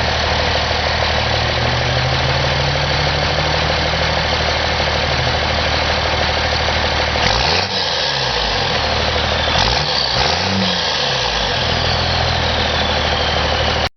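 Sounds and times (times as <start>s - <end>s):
diesel engine idling and revving: 0.0s - 13.9s
high whine: 0.0s - 13.9s.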